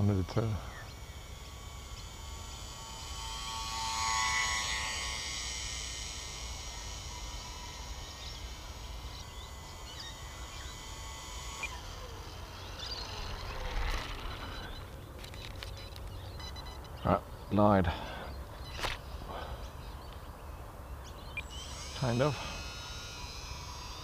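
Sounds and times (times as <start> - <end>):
small electric motor whining: 0.0 - 17.0, 21.0 - 24.0.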